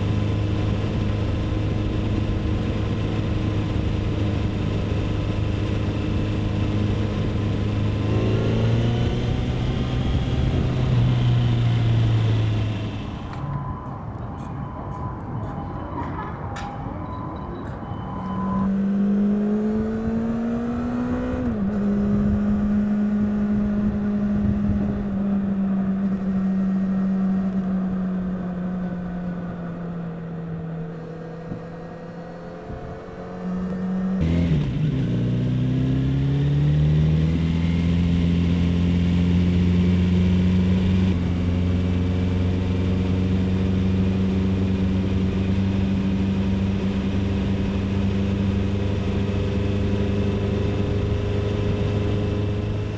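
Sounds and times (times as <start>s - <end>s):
motorcycle engine and exhaust: 0.0s - 13.6s, 18.2s - 52.9s.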